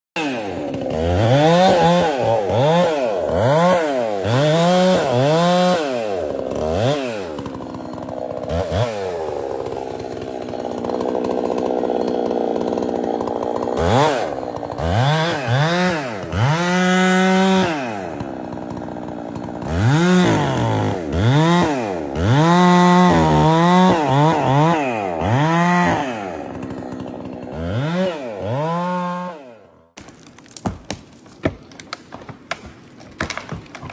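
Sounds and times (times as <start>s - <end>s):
chainsaw engine revving: 0.2s - 30.0s.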